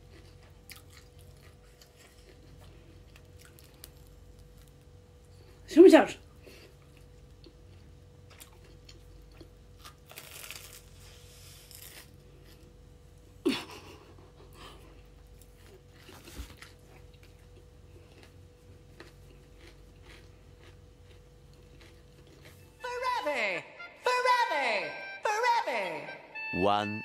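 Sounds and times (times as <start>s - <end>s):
crunching and chewing food: 0.0s - 22.8s.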